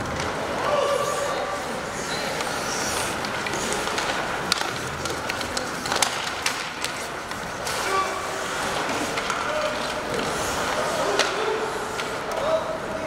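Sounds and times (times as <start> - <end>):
hockey sticks and puck clacking: 0.0 - 13.0
rink background noise: 0.0 - 13.0
skates scraping ice: 0.0 - 13.0.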